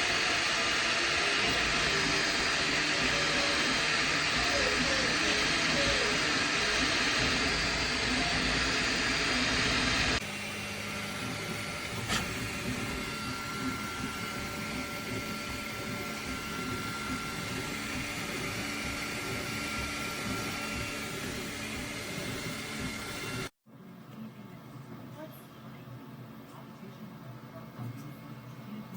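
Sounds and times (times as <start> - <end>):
printer fans and motors whirring: 0.0 - 23.5.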